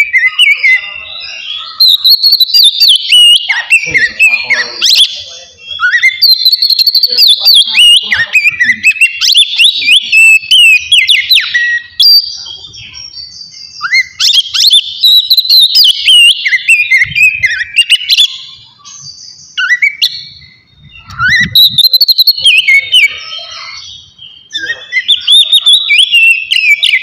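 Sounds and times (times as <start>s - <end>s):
bird singing whistled phrases: 0.0s - 27.0s.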